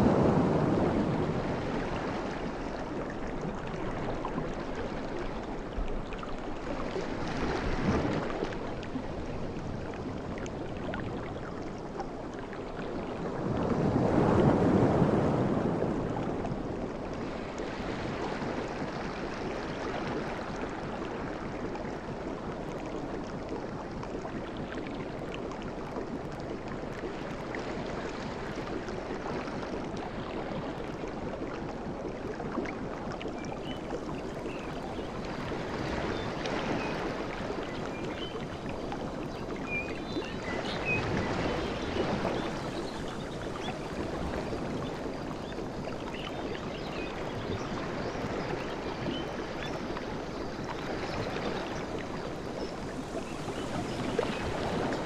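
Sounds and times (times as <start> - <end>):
sea waves washing onto beach: 0.0 - 25.4, 26.0 - 55.0.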